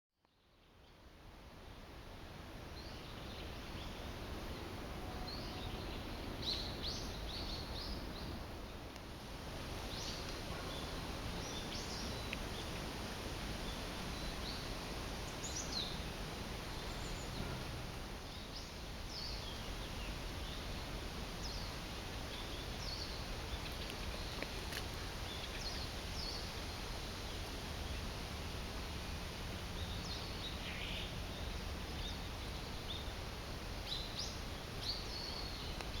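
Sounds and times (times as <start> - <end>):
steady background hiss: 0.3 - 36.0.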